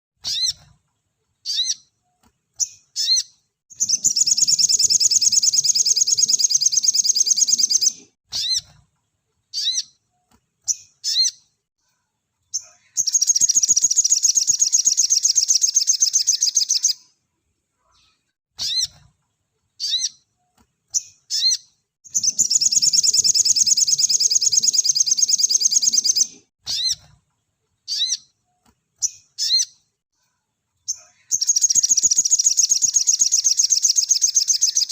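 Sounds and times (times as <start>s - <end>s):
bird chirps: 0.2s - 0.8s, 1.4s - 8.8s, 9.5s - 11.6s, 12.5s - 17.2s, 19.8s - 27.2s, 27.8s - 29.9s, 30.8s - 34.9s.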